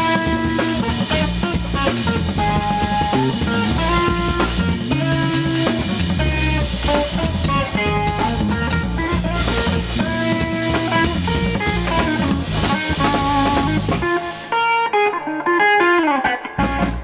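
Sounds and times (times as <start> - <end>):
walking bass line: 0.0 - 14.5, 16.6 - 17.0
drums and cymbals: 0.0 - 15.0, 16.6 - 17.0
guitar melody: 0.0 - 17.0.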